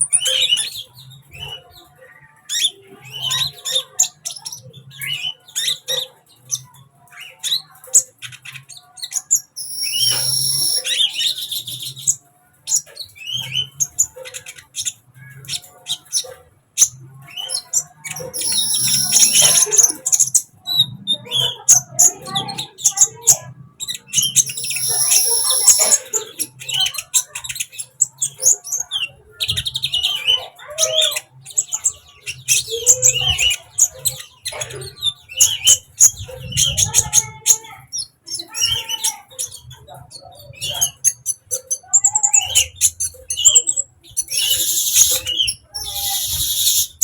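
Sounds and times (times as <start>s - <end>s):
bird chirping and trilling: 0.0s - 47.0s.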